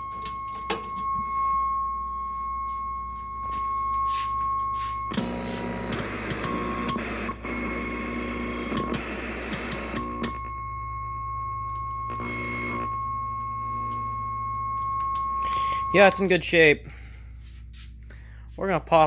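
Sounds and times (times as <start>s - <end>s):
high test tone: 0.0s - 7.8s, 8.6s - 16.7s
noisy music-like sound: 0.0s - 16.3s
low hum: 0.0s - 16.4s.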